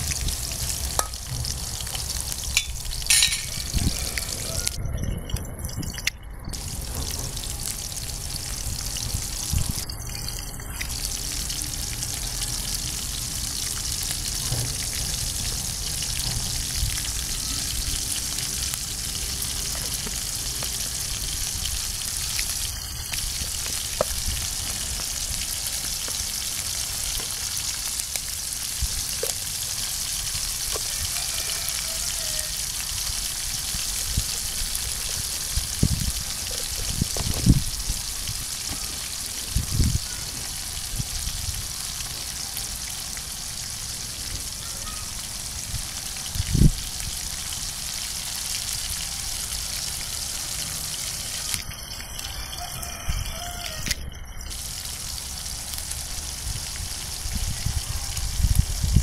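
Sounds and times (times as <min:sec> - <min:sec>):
meat sizzling in oil: 0:00.0 - 0:05.0, 0:05.9 - 0:59.0.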